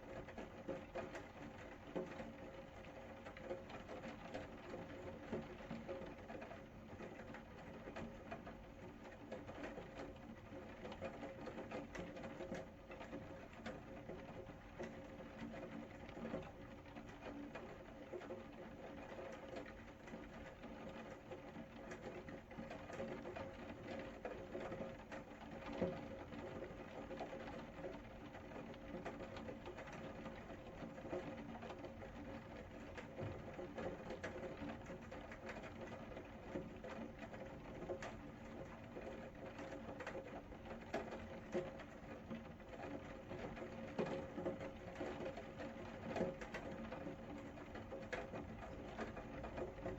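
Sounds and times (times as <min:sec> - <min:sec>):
rain pattering on hard surfaces: 0:00.0 - 0:49.9.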